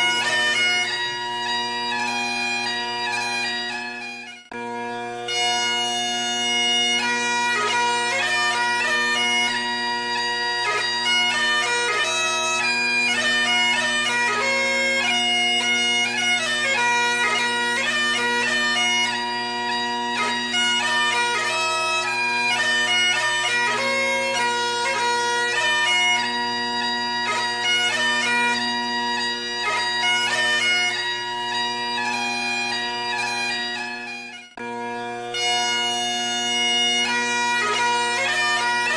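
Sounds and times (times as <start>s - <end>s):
bagpipe music: 0.0s - 38.9s.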